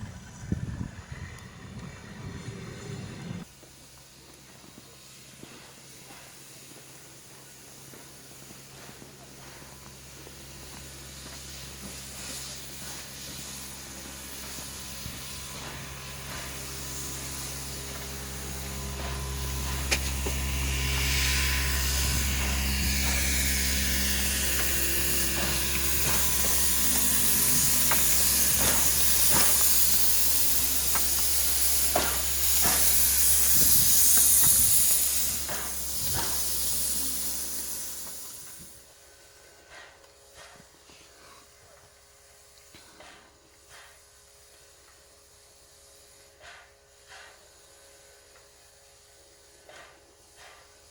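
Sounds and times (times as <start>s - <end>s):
steam locomotive hissing steam: 0.0s - 50.9s.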